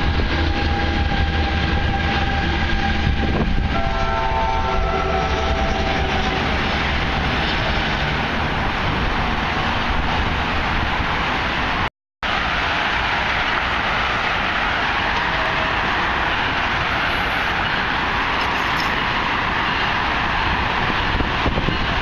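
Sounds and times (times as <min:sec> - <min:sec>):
train rumble with rail noise: 0:00.0 - 0:22.0.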